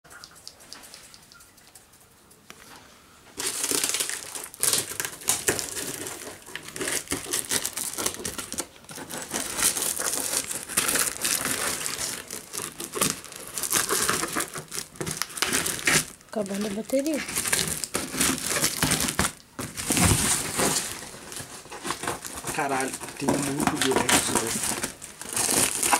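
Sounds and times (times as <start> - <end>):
plastic wrap and tape crinkling: 2.6 - 25.9.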